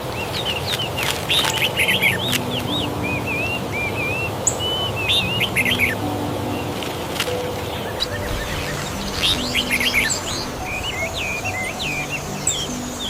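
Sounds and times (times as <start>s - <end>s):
low background hiss: 0.0s - 13.0s
songbirds chirping and whistling: 0.0s - 13.0s.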